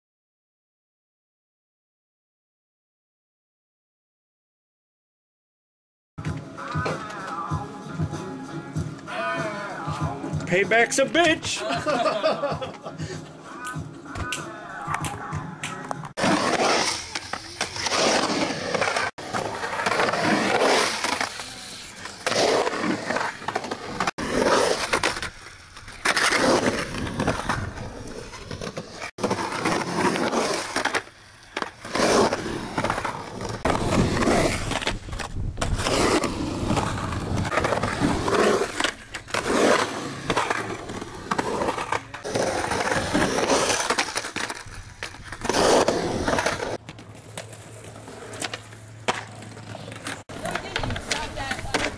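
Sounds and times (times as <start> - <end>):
skateboard trucks grinding: 6.2 - 51.9
skateboard wheels rolling on concrete: 6.2 - 51.9.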